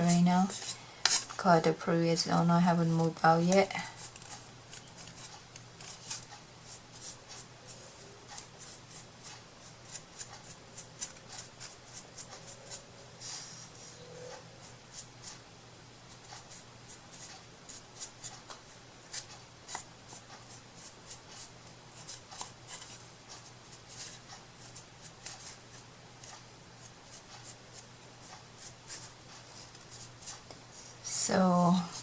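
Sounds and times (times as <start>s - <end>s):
scratching and rubbing on tabletop: 0.0s - 1.4s, 2.8s - 15.4s, 16.1s - 32.0s
steady low hum: 0.0s - 32.0s.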